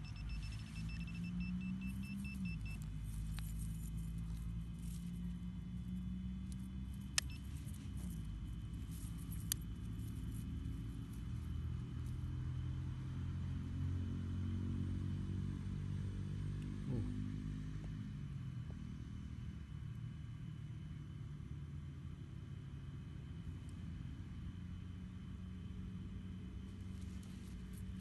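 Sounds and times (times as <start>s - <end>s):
low engine hum: 0.0s - 28.0s.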